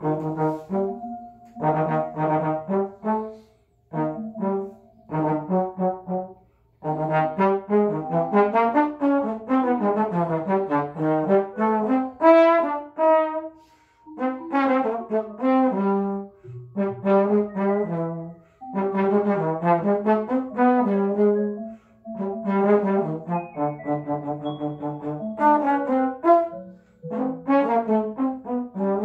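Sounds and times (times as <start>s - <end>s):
trombone improvising: 0.0s - 29.0s.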